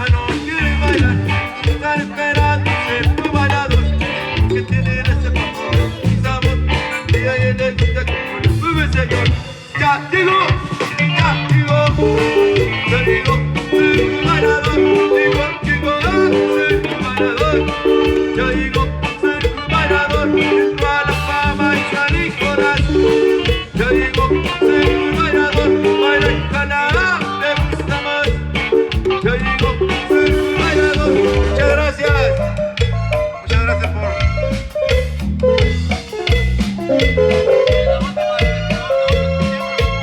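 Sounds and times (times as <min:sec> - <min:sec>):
latin dance music over pa: 0:00.0 - 0:40.0.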